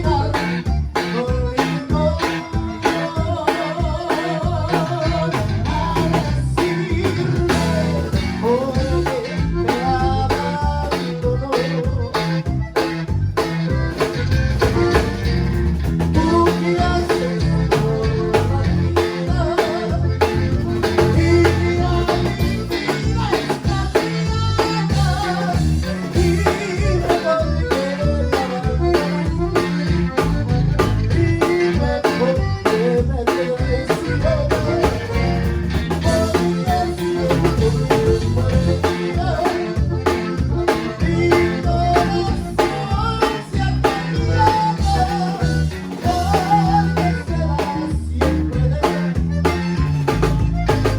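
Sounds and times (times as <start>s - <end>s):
button accordion: 0.0s - 50.9s
live band playing: 0.0s - 50.9s.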